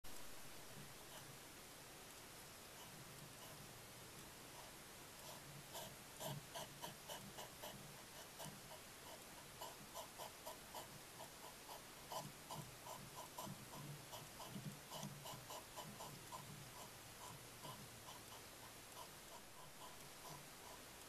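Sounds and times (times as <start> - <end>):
hedgehog eating: 0.1 - 21.0.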